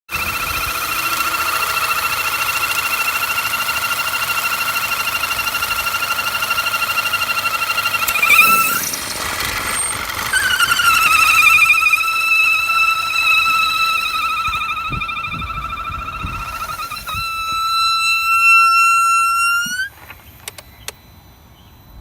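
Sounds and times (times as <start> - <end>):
high-pitched squealing whistle: 0.2 - 22.0.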